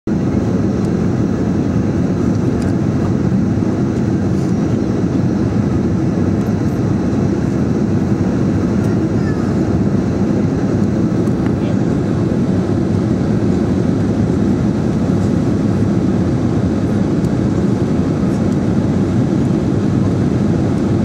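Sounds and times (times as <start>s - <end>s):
airplane cabin engine rumble: 0.1s - 21.0s.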